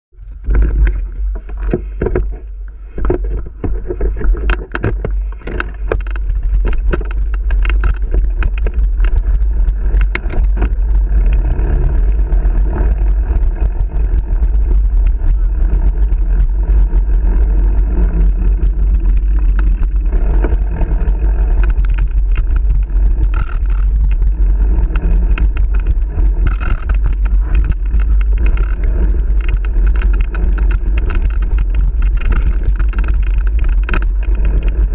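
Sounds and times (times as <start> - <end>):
bike tyre noise: 0.1 - 34.9
wind buffeting microphone: 0.1 - 34.9
bike knocking and rattling: 0.2 - 34.9.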